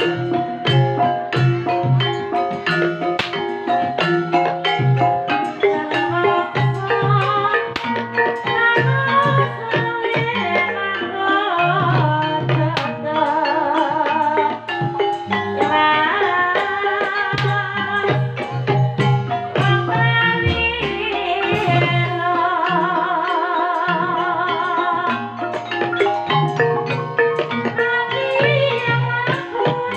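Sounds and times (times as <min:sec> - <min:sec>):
gamelan percussion and drums: 0:00.0 - 0:29.9
person singing wavering melody: 0:00.0 - 0:29.9.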